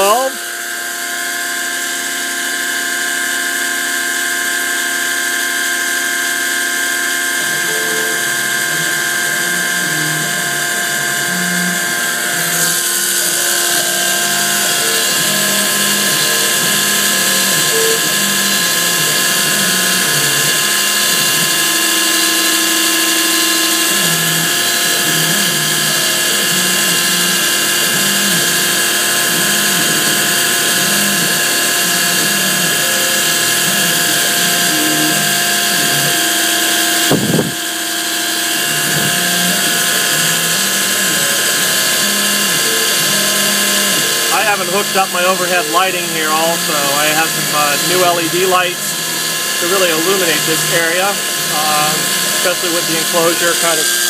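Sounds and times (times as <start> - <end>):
milling machine spindle running: 0.0 - 54.0
stepper motor tones: 0.0 - 54.0.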